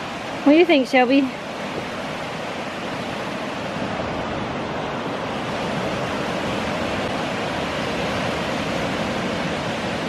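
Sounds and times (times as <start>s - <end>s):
waves breaking on shore: 0.0s - 10.0s.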